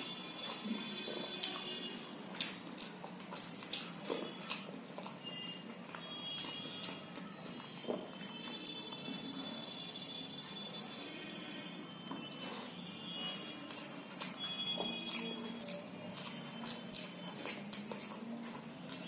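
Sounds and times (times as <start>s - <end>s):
chewing and mouth clicks: 0.0s - 19.0s.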